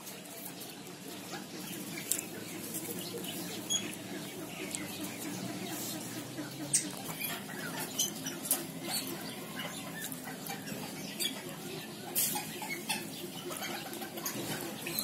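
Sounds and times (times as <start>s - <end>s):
chickens chirping: 0.0s - 15.0s
chickens scratching in dry leaves: 0.0s - 15.0s.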